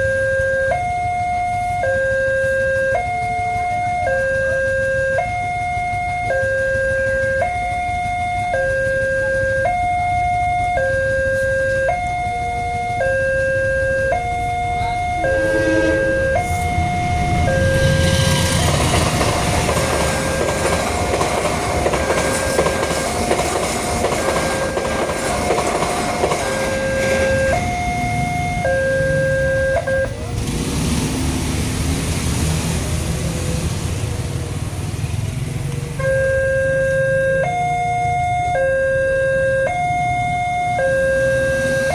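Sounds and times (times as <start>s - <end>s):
two-tone crossing warning siren: 0.0s - 30.5s, 33.2s - 41.9s
low train rumble: 0.0s - 41.9s
train wheels and carriages rushing: 0.9s - 36.0s, 40.0s - 41.9s.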